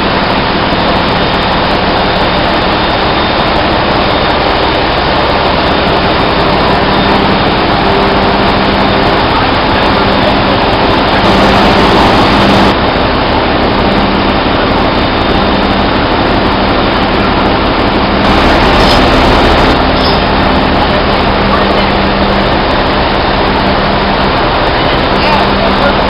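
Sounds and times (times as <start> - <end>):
loud machinery din: 0.0 - 26.0
low steady hum: 0.0 - 26.0.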